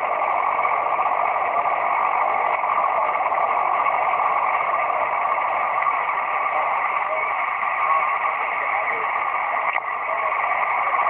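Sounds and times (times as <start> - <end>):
radio static hiss from speaker: 0.0 - 11.0.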